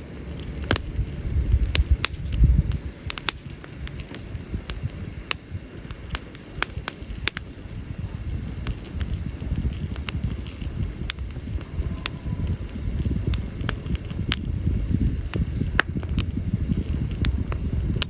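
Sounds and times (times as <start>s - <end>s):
burning logs popping and snapping: 0.0s - 18.0s
campfire crackling: 0.0s - 18.0s
steady low rumble: 0.0s - 18.0s.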